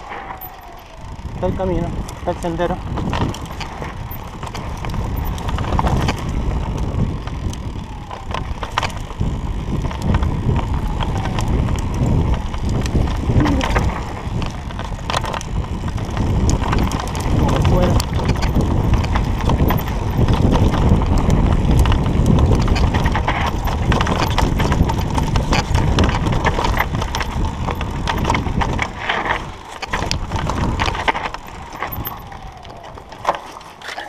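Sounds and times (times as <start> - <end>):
bike clicking and rattling: 0.0 - 34.0
bike tyres rumbling on dirt: 0.0 - 34.0
wind: 0.0 - 34.0.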